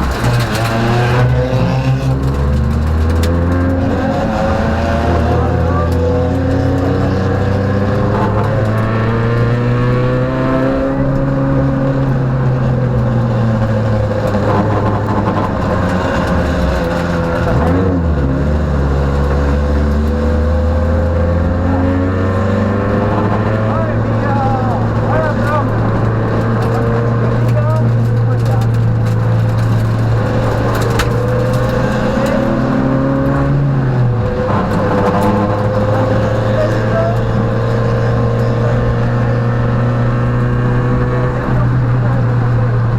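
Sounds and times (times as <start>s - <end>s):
gear change: 0.0s - 42.9s
rally car engine from inside: 0.0s - 42.9s.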